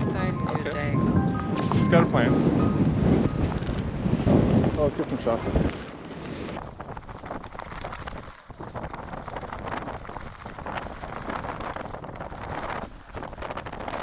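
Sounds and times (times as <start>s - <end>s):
gusting wind buffeting microphone: 0.0s - 14.0s.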